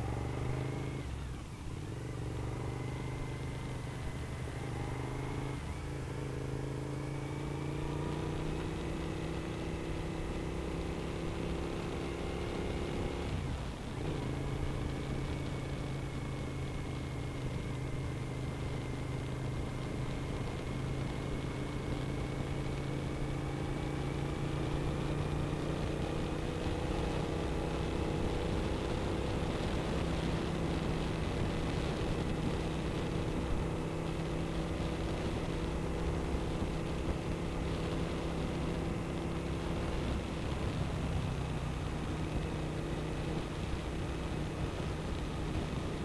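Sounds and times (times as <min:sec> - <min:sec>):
motorcycle engine cruising: 0:00.0 - 0:46.0
wind and road noise: 0:00.0 - 0:46.0.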